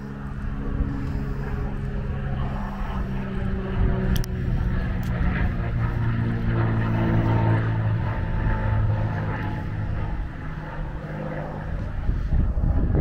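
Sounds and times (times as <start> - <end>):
propeller plane droning overhead: 0.0 - 13.0.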